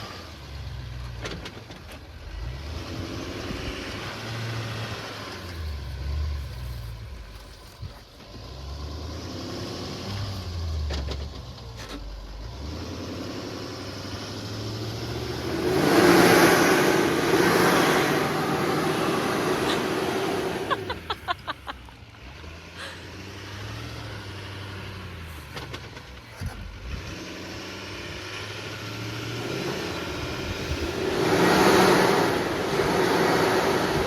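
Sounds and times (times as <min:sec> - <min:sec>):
pickup engine revving: 0:00.0 - 0:34.0.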